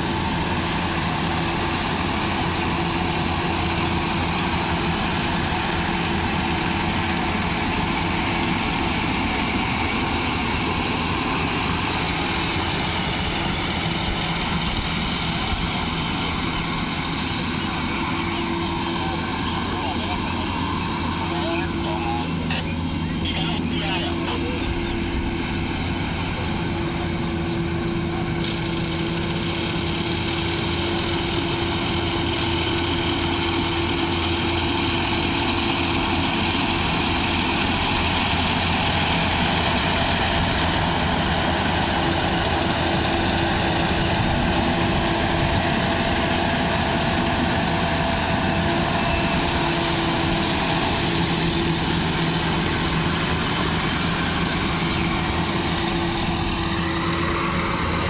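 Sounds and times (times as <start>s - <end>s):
dense mechanical rush: 0.0s - 58.0s
harvesting machine engine running: 0.0s - 58.0s.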